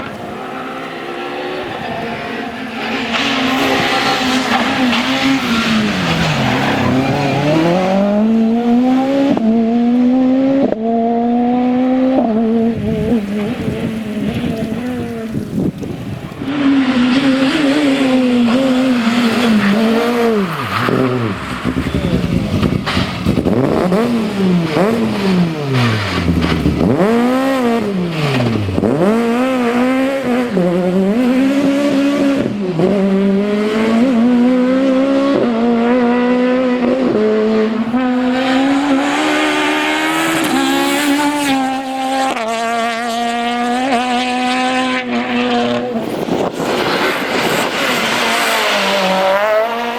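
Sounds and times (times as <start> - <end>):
rally car engine revving: 0.0 - 49.9.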